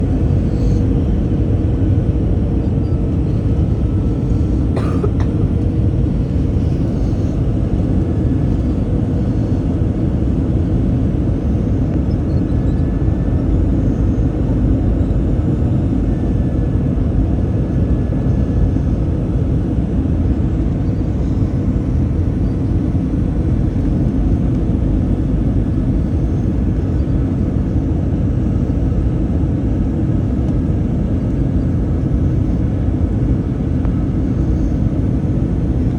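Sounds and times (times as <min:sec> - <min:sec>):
airliner rumble in flight: 0:00.0 - 0:35.9
faint steady hum: 0:00.0 - 0:35.9.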